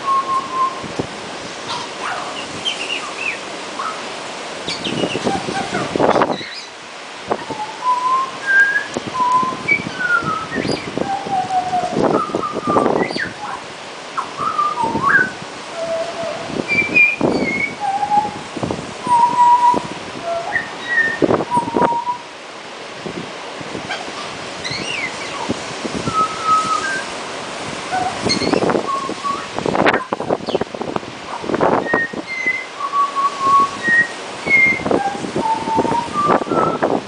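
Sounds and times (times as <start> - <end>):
songbird whistling: 0.0 - 0.9, 1.7 - 4.1, 4.7 - 6.7, 7.3 - 13.6, 14.2 - 18.4, 19.0 - 22.2, 23.9 - 27.1, 27.9 - 30.6, 31.7 - 36.9.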